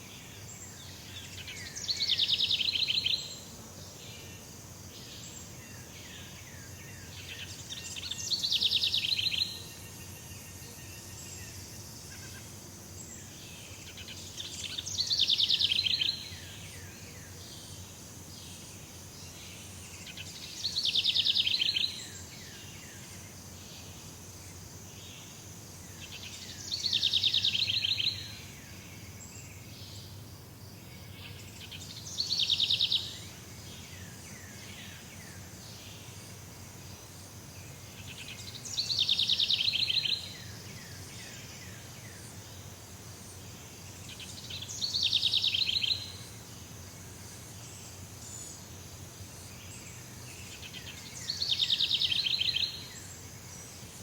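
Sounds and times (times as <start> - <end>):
high insect-like hiss: 0.0 - 54.0.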